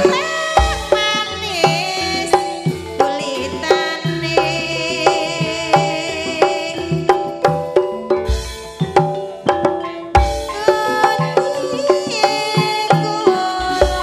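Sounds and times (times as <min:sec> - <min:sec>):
hand drum strikes: 0:00.0 - 0:14.0
live band music: 0:00.0 - 0:14.0.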